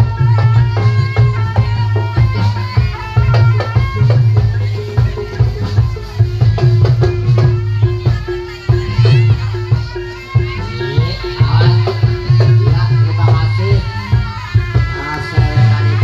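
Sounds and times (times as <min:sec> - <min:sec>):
gamelan folk ensemble playing: 0:00.0 - 0:16.0
rapid heavy drum strokes: 0:00.0 - 0:16.0
ringing pitched percussion: 0:00.0 - 0:16.0.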